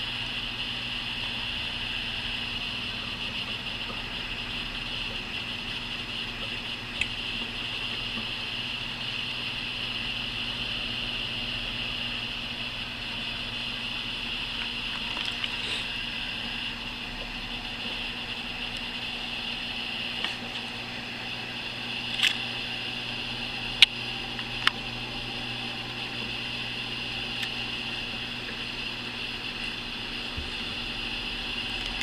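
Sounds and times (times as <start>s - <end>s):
background hiss and hum: 0.0s - 32.0s.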